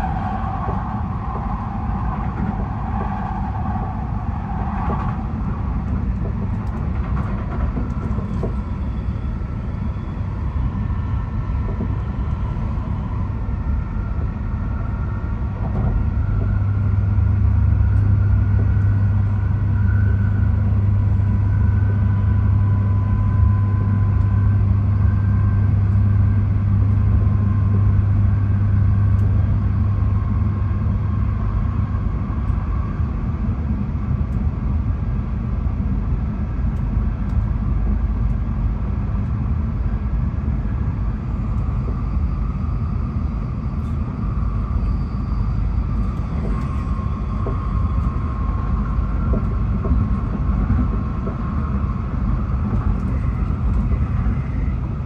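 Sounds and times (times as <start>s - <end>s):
train wheels rumbling: 0.0s - 55.0s
faint motor whine: 8.3s - 55.0s.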